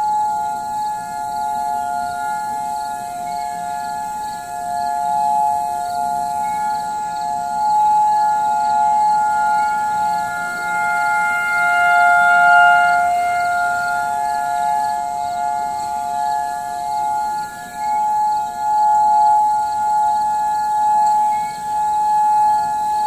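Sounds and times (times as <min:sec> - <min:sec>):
warning sirens steady tone: 0:00.0 - 0:23.0.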